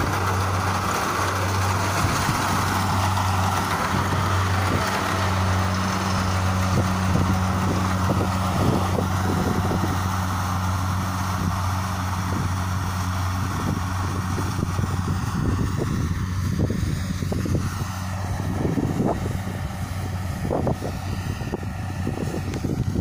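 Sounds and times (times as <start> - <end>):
combine harvester running: 0.0 - 23.0.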